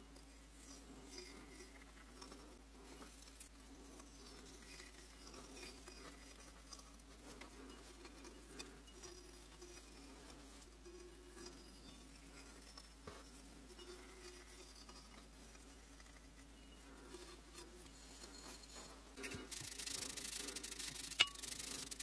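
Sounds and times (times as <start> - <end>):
tool scratching clay: 0.0 - 22.0.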